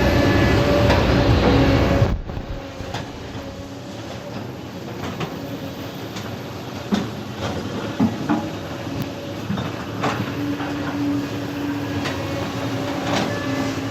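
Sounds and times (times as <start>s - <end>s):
excavator diesel engine running: 0.0s - 13.9s
steady hum: 0.0s - 13.9s.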